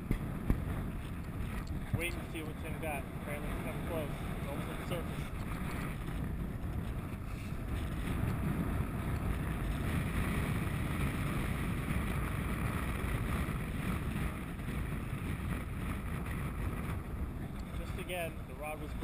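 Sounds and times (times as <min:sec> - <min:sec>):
water washing along hull: 0:00.0 - 0:19.0
wind rumble on microphone: 0:00.0 - 0:19.0.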